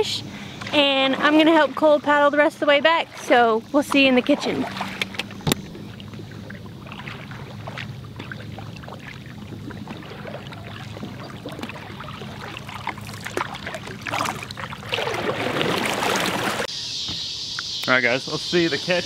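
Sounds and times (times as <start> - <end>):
paddles splashing in water: 0.0 - 16.7
water swishes: 0.0 - 16.7
steady low hum: 0.0 - 19.0
water dripping: 0.6 - 16.6.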